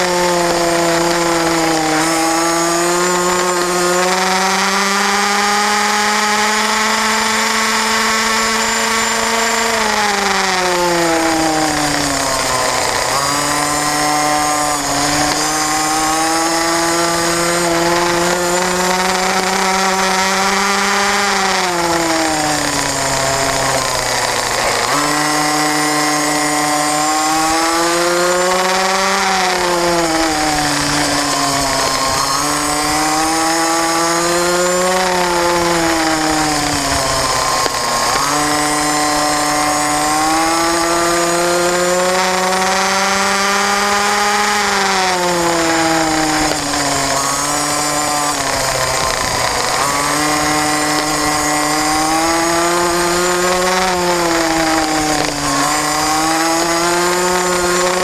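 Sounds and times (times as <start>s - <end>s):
minibike engine at high revs: 0.0s - 58.0s.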